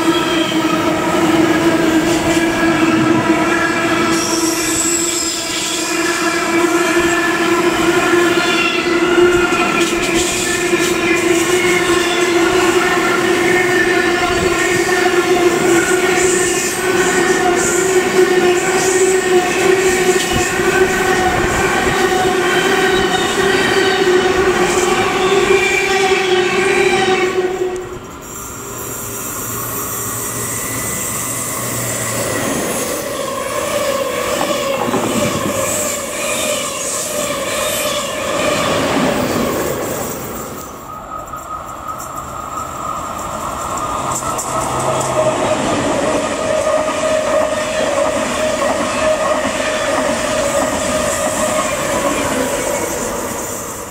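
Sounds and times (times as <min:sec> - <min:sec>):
freight train wheel noise: 0:00.0 - 0:53.9
high-speed train whine: 0:00.0 - 0:53.9
train wheels squealing: 0:00.0 - 0:53.9.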